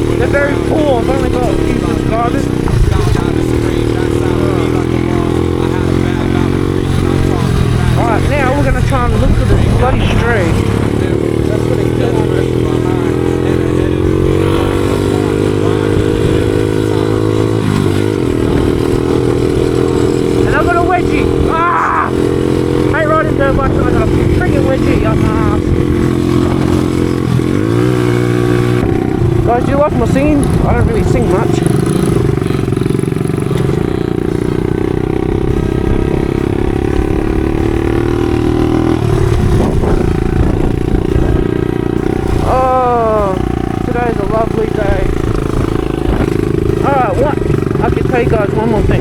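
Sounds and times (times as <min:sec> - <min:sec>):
small four-stroke engine running: 0:00.0 - 0:49.0.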